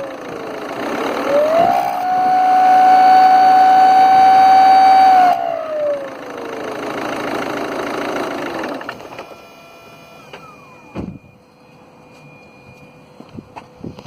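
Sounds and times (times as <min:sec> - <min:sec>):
turbocharger whining: 0:00.0 - 0:14.0.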